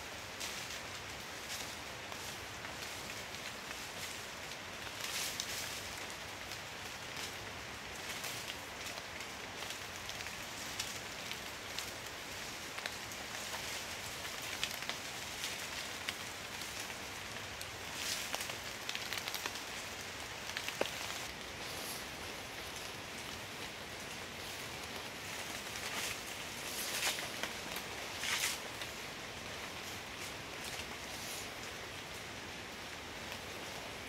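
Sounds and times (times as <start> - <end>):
heavy rain hissing: 0.0 - 34.0
raindrops ticking close by: 0.0 - 34.0.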